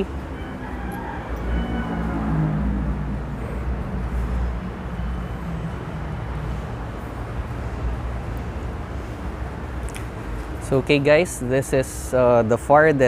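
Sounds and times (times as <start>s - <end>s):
vehicle engine humming past: 0.0s - 10.5s
steady low rumble: 0.0s - 11.0s.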